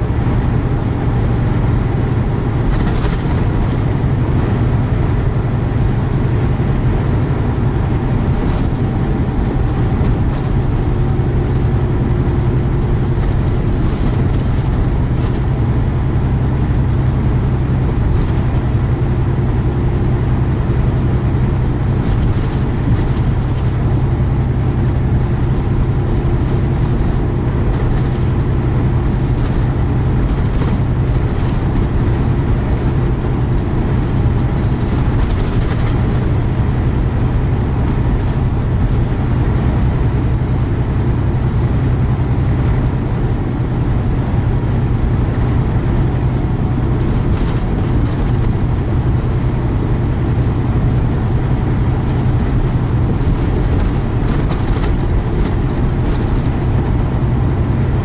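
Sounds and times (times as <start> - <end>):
diesel engine cruising: 0.0 - 58.0
road noise: 0.0 - 58.0.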